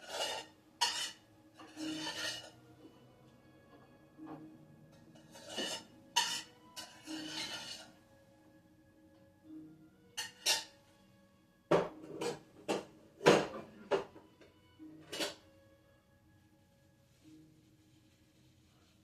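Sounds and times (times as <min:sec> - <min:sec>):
faint music: 0:00.0 - 0:19.0.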